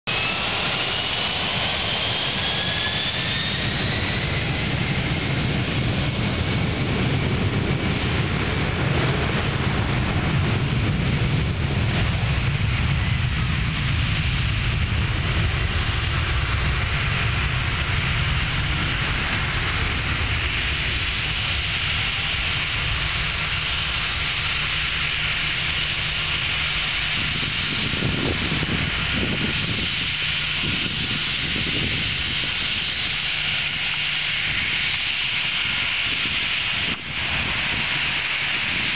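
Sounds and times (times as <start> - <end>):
jet engines spooling up: 0.1 - 38.9.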